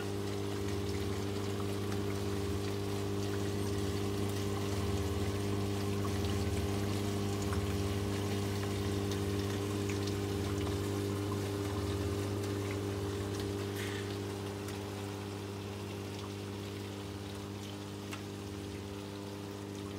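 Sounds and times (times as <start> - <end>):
electric pump hum: 0.0 - 19.9
water trickling and splashing: 0.0 - 19.9.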